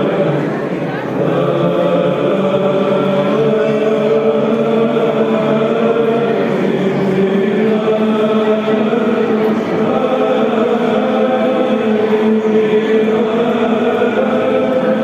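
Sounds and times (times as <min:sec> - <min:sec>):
choir chanting: 0:00.0 - 0:15.0
steady vocal drone: 0:00.0 - 0:15.0.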